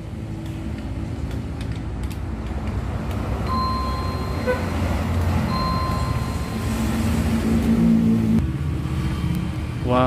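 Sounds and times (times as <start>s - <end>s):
motor traffic rumble: 0.0s - 10.0s.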